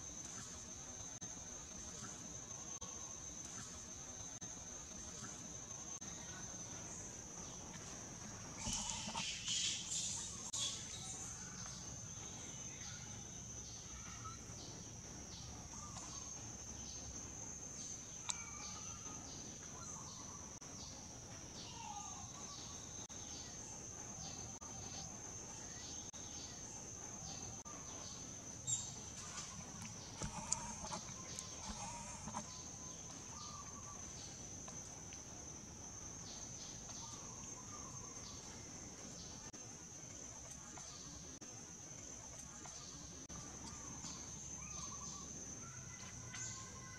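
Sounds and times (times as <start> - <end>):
faint bird chirps: 0.0 - 35.2, 35.9 - 39.5, 42.0 - 46.9
insects droning: 0.0 - 46.9.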